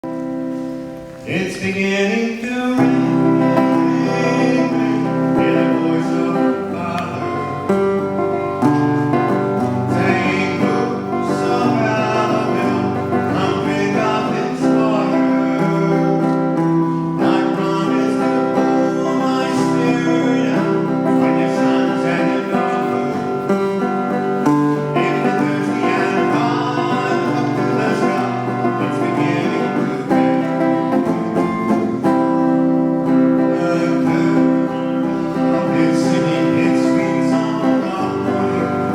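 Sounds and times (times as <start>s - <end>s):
acoustic guitar and plucked strings: 0.0s - 38.9s
person singing: 0.0s - 38.9s.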